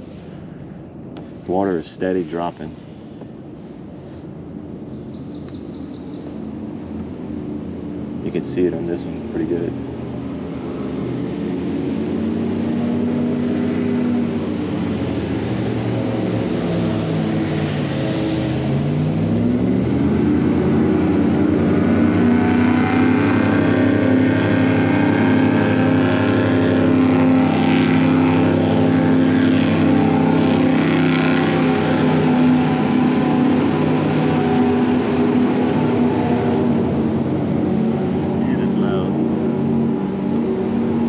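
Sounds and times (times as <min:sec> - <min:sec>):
airboat engine and propeller: 0:00.0 - 0:41.0.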